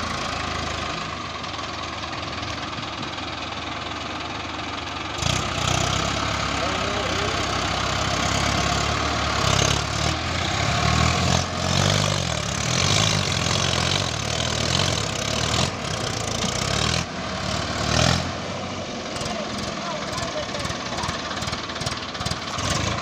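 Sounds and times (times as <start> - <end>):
tractor engine under load: 0.0 - 23.0.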